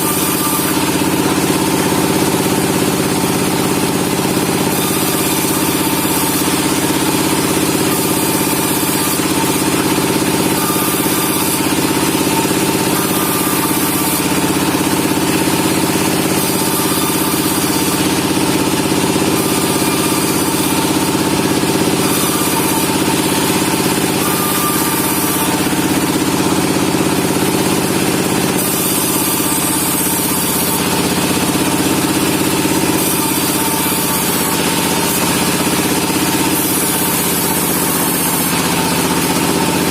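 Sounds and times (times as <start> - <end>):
sawmill machinery sawing logs: 0.0 - 39.9.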